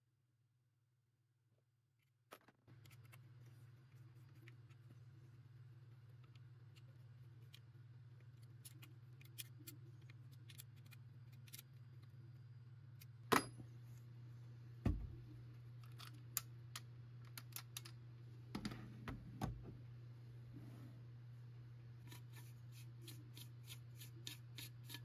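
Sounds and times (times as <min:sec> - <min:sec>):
steady low hum: 0:02.7 - 0:25.0.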